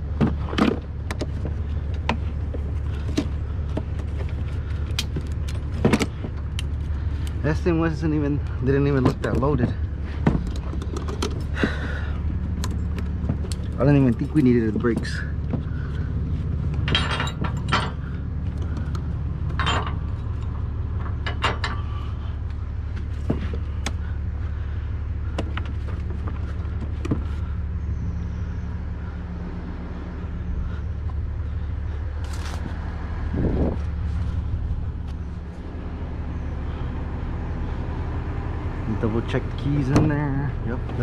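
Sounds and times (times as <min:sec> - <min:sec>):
diesel truck engine idling: 0:00.0 - 0:41.0.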